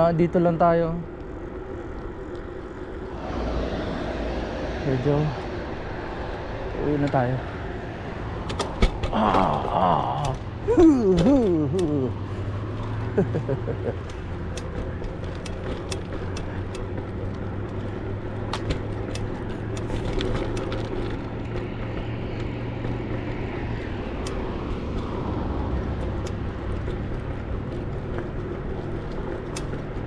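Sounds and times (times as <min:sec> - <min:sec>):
road traffic engine hum: 0:00.0 - 0:30.0
vehicle passing: 0:00.0 - 0:30.0.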